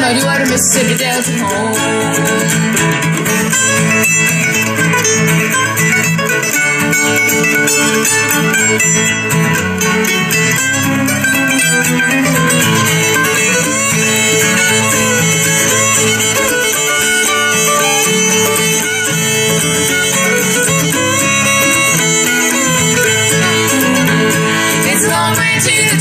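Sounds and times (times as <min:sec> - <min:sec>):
bluegrass band playing: 0:00.0 - 0:26.0
fiddle melody: 0:00.0 - 0:26.0.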